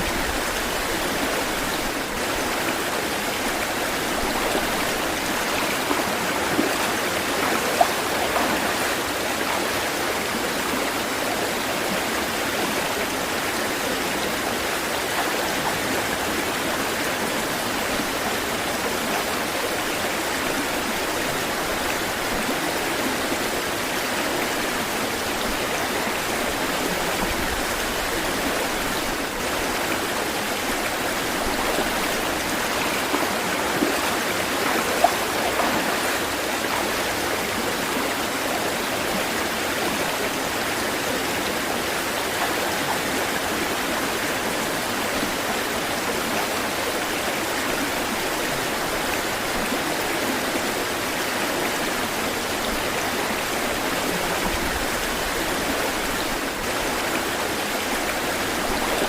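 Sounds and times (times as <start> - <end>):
water splashes: 0.0 - 13.6, 14.2 - 59.0
water rushing: 0.0 - 59.0.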